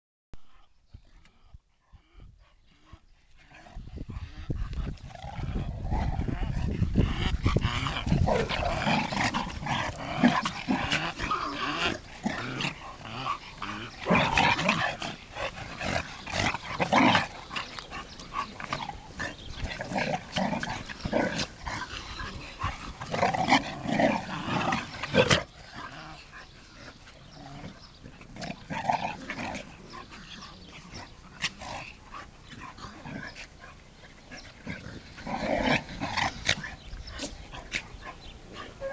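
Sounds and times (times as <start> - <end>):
dogs growling: 2.0 - 38.9.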